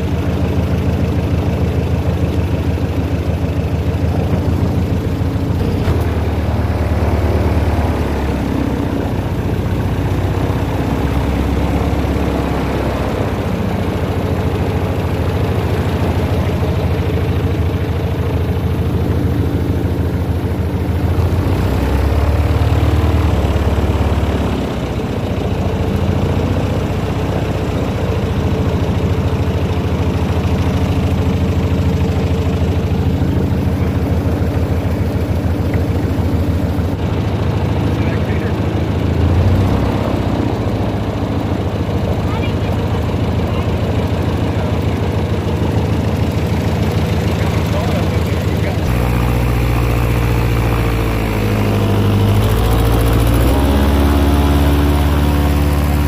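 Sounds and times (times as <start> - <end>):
airboat engine and propeller: 0.0 - 56.0.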